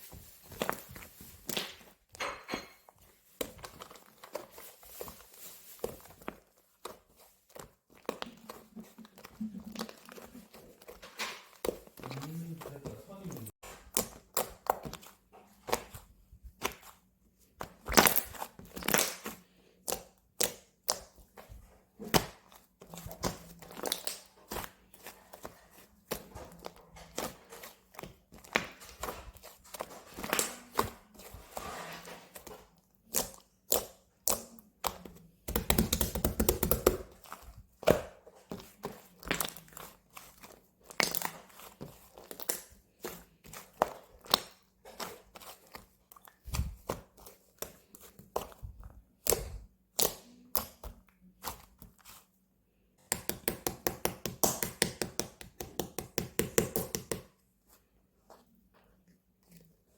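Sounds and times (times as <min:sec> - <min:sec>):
slime squished by hand: 0:03.3 - 0:52.3.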